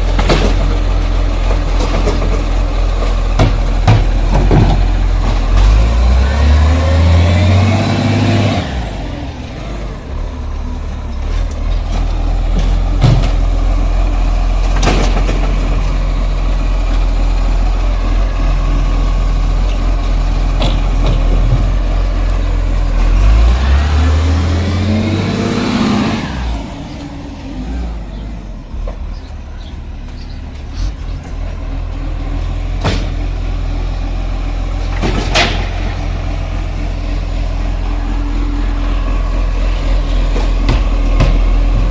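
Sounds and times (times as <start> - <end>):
garbage truck engine idling: 0.0 - 41.9.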